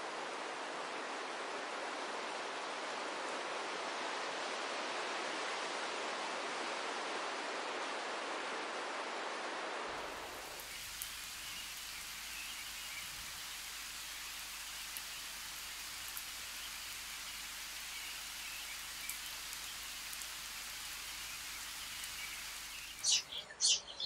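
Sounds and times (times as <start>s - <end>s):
outdoor ambient hiss: 0.0s - 24.0s.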